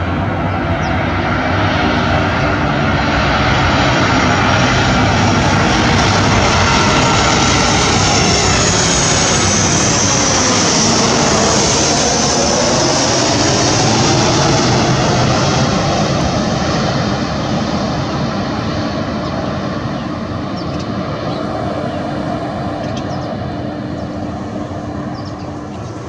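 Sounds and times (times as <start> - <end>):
high-pitched fan whine: 0.0 - 26.0
jet airliner roaring overhead: 0.0 - 26.0.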